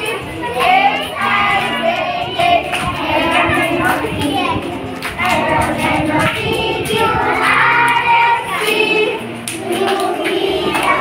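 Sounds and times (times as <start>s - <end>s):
children singing in chorus: 0.0s - 11.0s
hands clapping: 0.6s - 11.0s.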